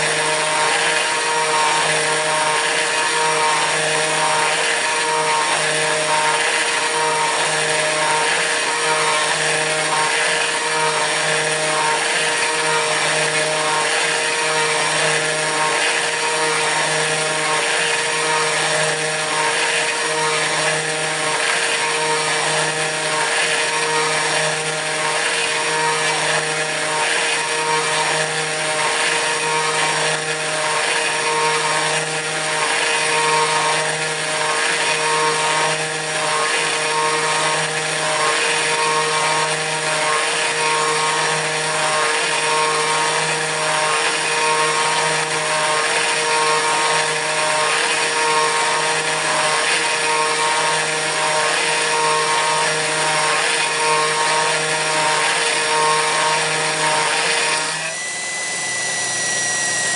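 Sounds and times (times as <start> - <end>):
router spindle milling metal: 0.0 - 59.9.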